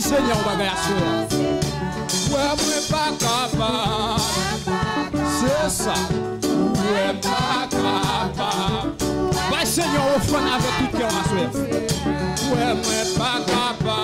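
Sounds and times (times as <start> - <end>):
man singing into a microphone: 0.0 - 1.3, 2.1 - 6.2, 7.6 - 14.0
amplified instrumental accompaniment: 0.0 - 14.0.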